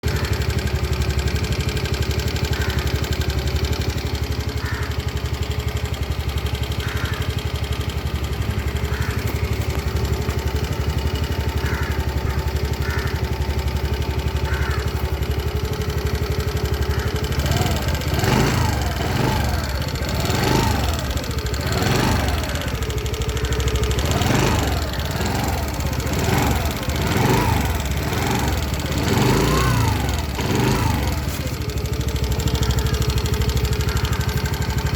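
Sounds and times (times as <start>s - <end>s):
scooter engine idling and revving: 0.0s - 34.9s.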